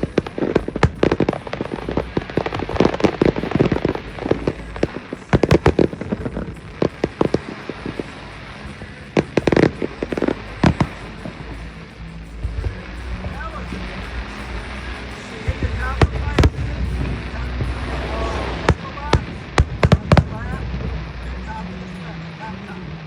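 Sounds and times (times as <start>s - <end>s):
low rumbling booms: 0.0s - 22.4s
fireworks bangs and crackles: 0.0s - 22.9s.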